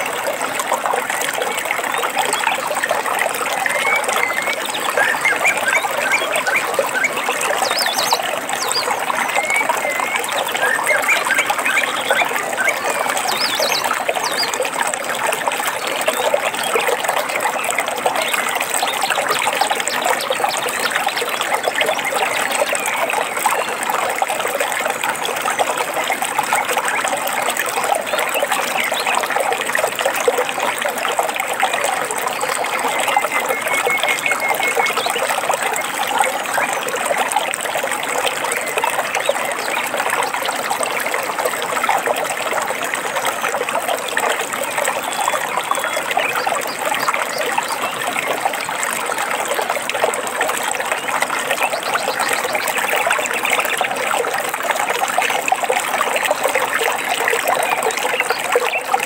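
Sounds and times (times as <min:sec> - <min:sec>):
water trickling and babbling: 0:00.0 - 0:59.0.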